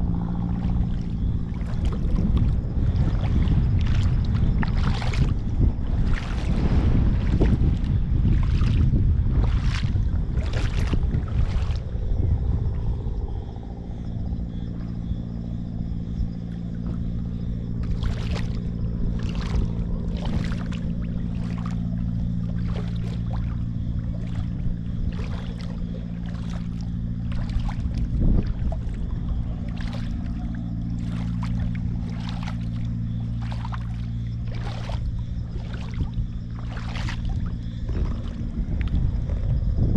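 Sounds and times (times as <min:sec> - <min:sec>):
sea water lapping and splashing: 0:00.0 - 0:39.9
steady low hum: 0:00.0 - 0:39.9.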